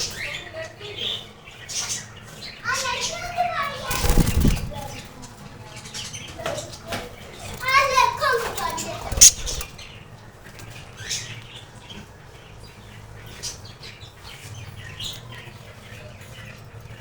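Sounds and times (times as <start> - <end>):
budgerigars chirping: 0.0 - 17.0.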